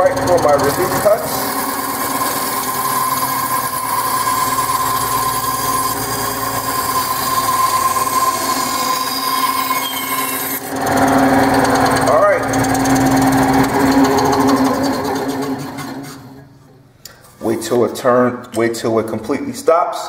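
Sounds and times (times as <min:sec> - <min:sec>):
bandsaw cutting wood: 0:00.0 - 0:16.5.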